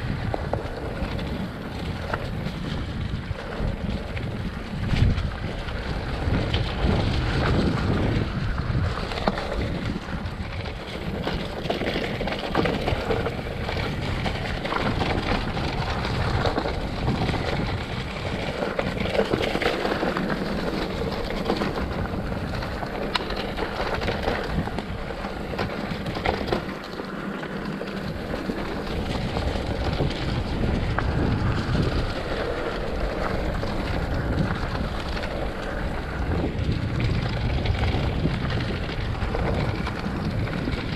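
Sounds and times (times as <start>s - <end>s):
bicycle clicks and rattles: 0.0s - 40.9s
bicycle tyre noise: 0.0s - 40.9s
wind rushing over microphone: 0.0s - 40.9s.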